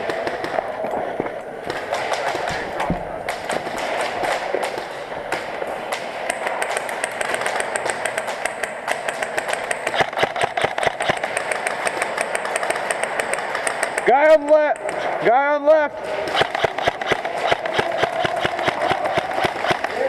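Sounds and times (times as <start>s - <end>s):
airsoft guns firing full-auto: 0.0s - 0.9s, 1.6s - 15.3s, 15.9s - 20.0s.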